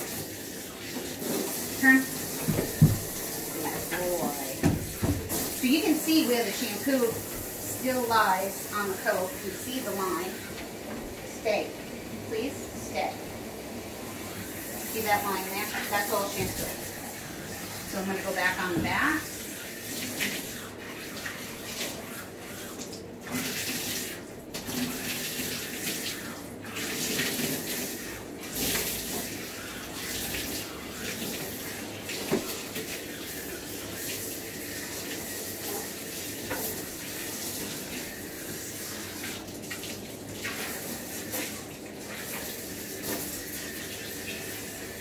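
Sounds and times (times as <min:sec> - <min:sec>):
water spraying on dog's coat: 0:00.0 - 0:10.6, 0:14.3 - 0:45.0.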